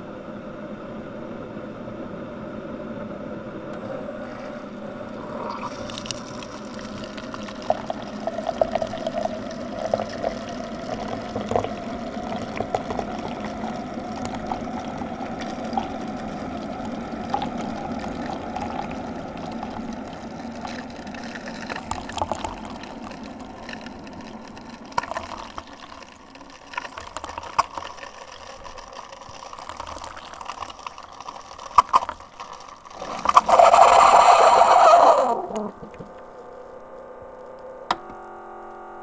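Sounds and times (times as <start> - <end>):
coffee maker pump humming: 0.0 - 39.0
water gurgling and trickling: 3.8 - 36.4.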